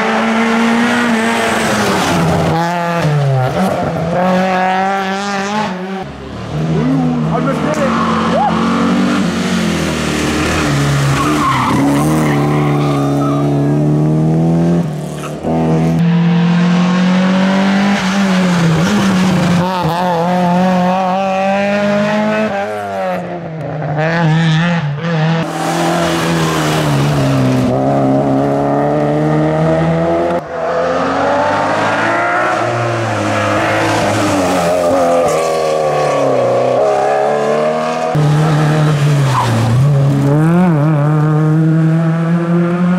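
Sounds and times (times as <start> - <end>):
rally car engines revving hard: 0.0 - 42.9.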